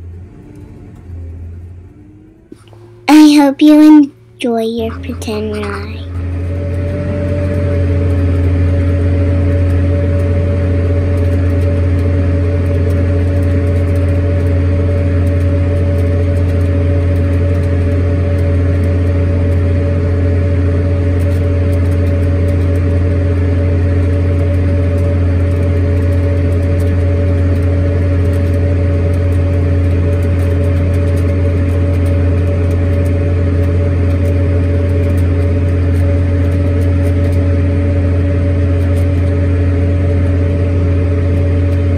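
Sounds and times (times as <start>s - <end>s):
steady hum: 0.0s - 41.9s
tractor diesel engine droning: 0.0s - 41.9s.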